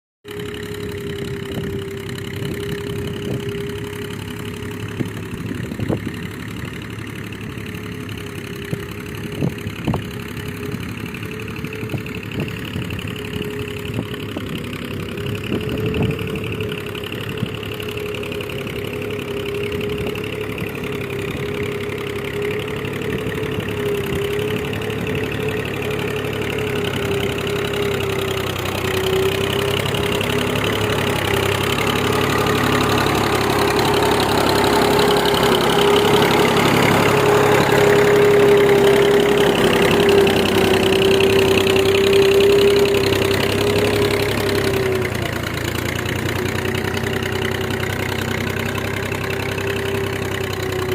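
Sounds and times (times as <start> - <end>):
tractor engine running: 0.2 - 50.9.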